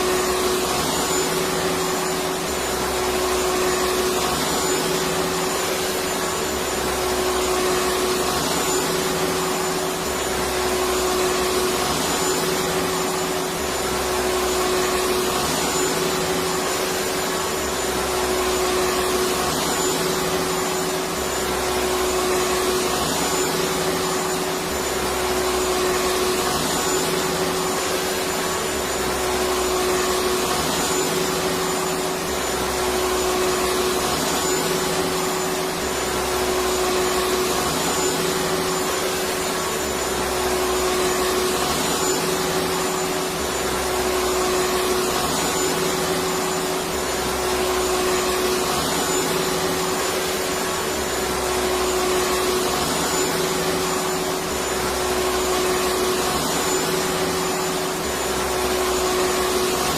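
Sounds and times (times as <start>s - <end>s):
vacuum cleaner motor running: 0.0s - 59.9s.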